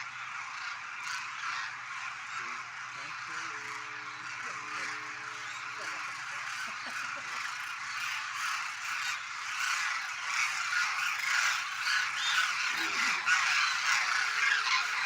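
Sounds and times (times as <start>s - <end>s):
flock of cranes calling: 0.0s - 15.0s.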